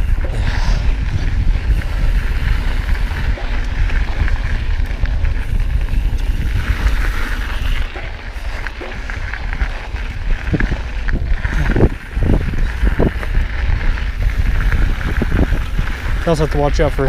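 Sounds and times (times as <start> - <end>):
bike rattles and clicks: 0.0 - 17.0
wind buffeting microphone: 0.0 - 17.0
tyres crunching over gravel: 0.2 - 17.0.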